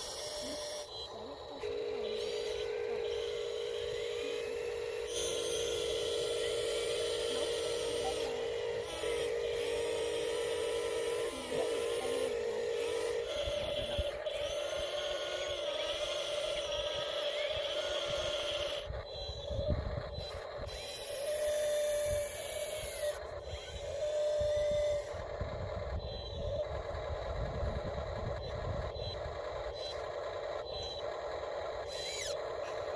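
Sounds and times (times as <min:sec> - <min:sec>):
short higher whines: 0:00.0 - 0:31.2
small electric motors whining: 0:00.0 - 0:32.9.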